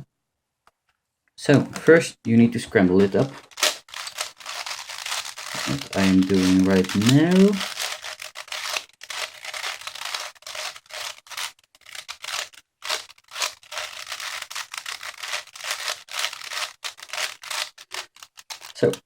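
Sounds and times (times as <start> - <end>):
puzzle cube plastic clicks and scrapes: 3.0 - 19.0.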